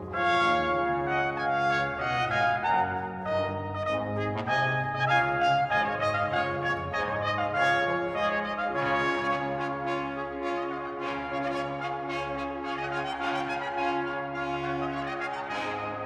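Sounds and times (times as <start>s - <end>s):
brass music: 0.0s - 16.0s.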